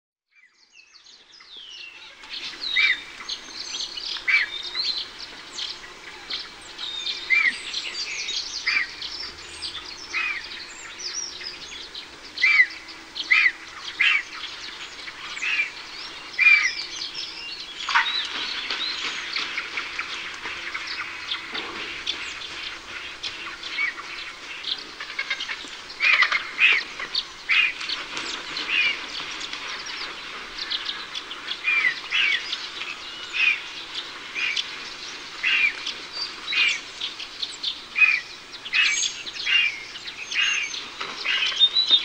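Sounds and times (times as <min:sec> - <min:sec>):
bird call notes: 0:01.6 - 0:42.0.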